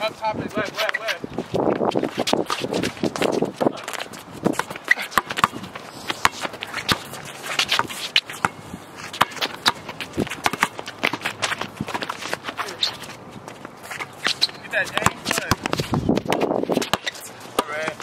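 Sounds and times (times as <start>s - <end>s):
footsteps and sneaker scuffs: 0.6s - 17.6s
basketball bouncing on asphalt: 1.7s - 12.8s, 13.4s - 18.0s.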